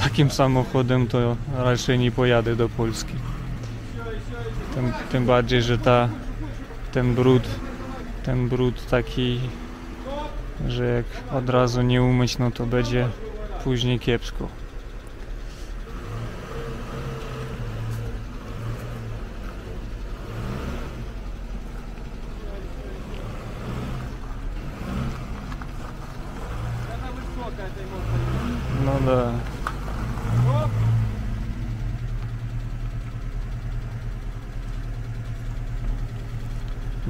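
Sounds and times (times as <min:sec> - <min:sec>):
car engine running at low revs: 0:00.0 - 0:37.0.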